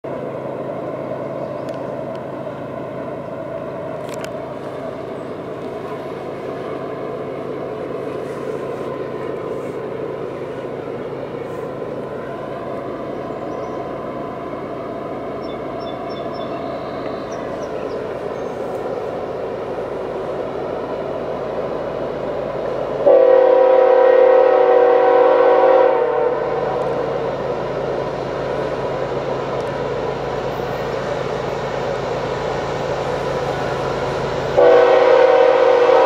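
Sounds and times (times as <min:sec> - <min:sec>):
diesel locomotive engine drone: 0:00.0 - 0:36.0
train rail noise: 0:00.0 - 0:36.0.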